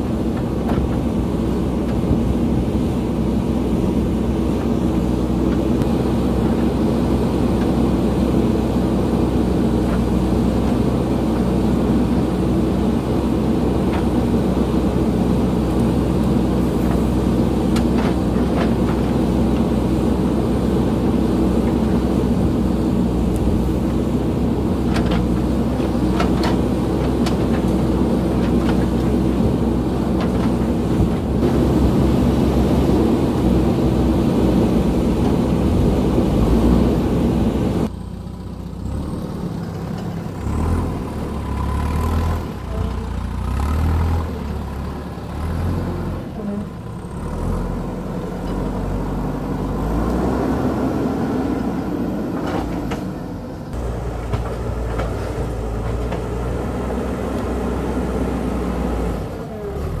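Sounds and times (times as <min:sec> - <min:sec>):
diesel engine working under load: 0:00.0 - 1:00.0.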